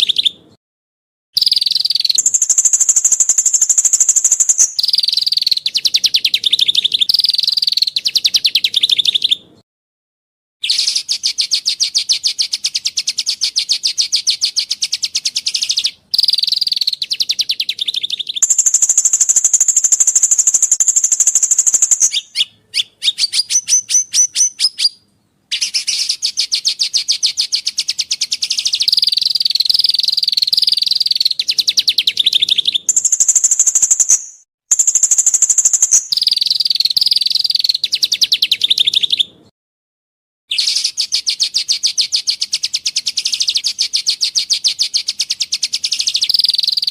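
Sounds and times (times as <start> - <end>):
songbird singing rattling trills: 1.4 - 9.4, 10.6 - 39.4, 40.5 - 46.9.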